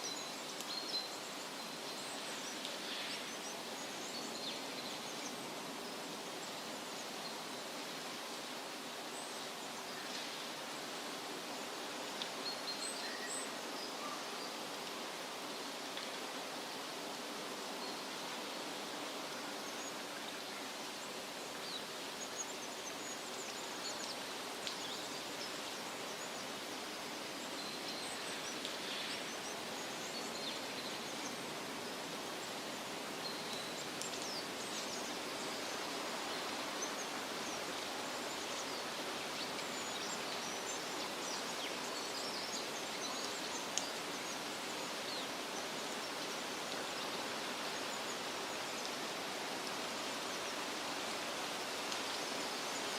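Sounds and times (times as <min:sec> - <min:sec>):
wind rustling leaves: 0:00.0 - 0:52.9.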